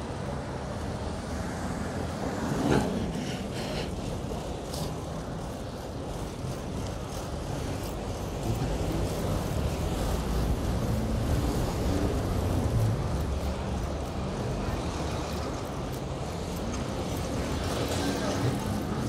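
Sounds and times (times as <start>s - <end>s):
traffic: 0.0s - 19.0s
wind rushing over microphone: 0.0s - 19.0s
vehicle engine: 1.0s - 19.0s.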